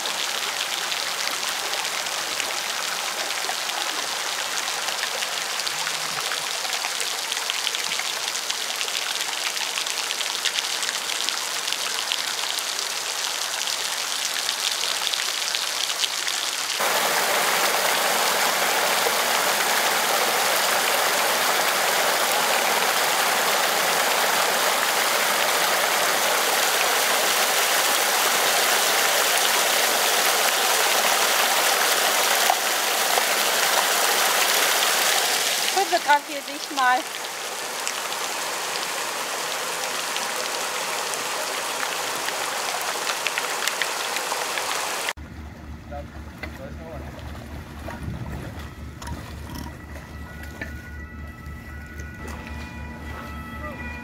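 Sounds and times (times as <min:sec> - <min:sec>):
torrential rain pouring: 0:00.0 - 0:45.2.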